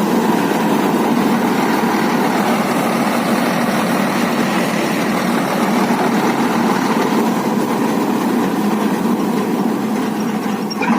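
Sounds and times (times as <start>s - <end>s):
tractor engine drone: 0.0s - 10.9s.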